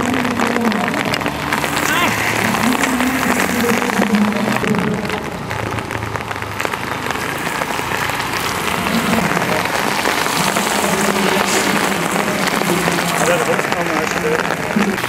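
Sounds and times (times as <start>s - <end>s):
heavy rain on road: 0.0s - 15.0s.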